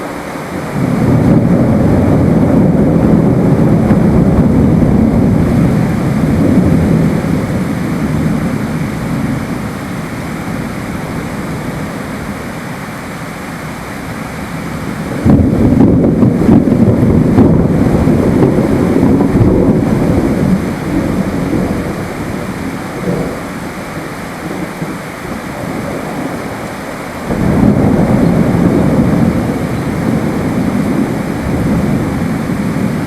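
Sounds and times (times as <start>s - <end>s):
steady rain: 0.0s - 33.0s
rolling thunder: 0.6s - 12.6s, 14.0s - 33.0s.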